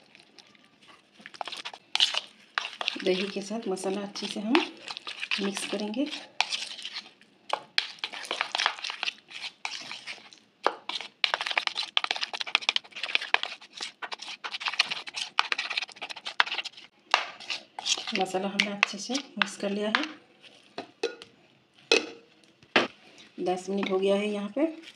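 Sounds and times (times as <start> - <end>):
spoon scraping in thick marinade: 0.0 - 21.2.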